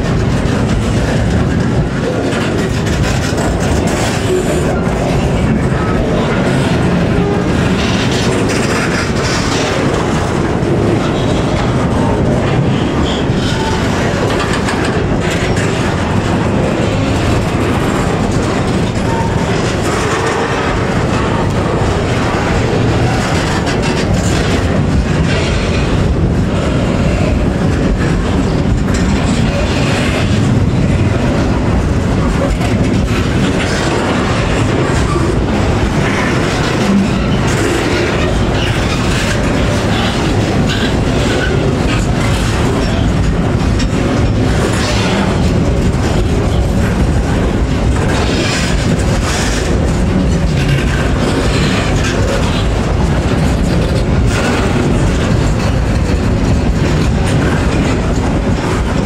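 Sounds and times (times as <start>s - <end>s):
freight train wagons rolling past: 0.0s - 59.0s
wheels clacking over rail joints: 0.0s - 59.0s.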